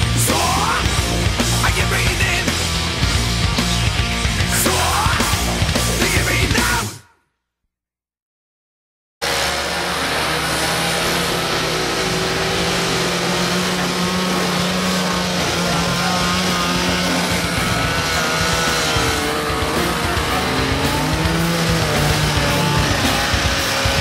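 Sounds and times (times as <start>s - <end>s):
snowmobile engine running: 0.0s - 6.8s, 9.2s - 24.0s.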